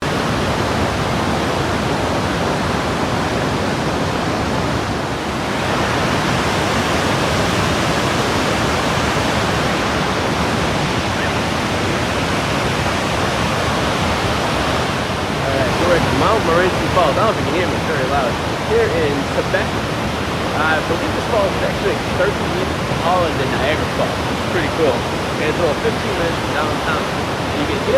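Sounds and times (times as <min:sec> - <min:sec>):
waterfall roaring: 0:00.0 - 0:27.9.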